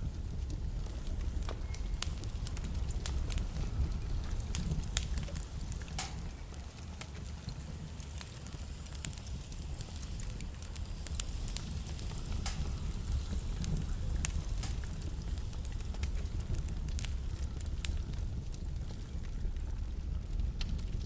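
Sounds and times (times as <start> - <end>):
burning logs crackling and popping: 0.0 - 21.0
low rumble of flames: 0.0 - 21.0.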